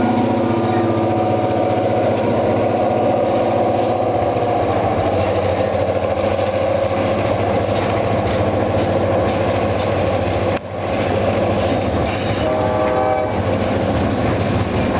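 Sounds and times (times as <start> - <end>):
freight train rumbling and rattling: 0.0 - 14.9.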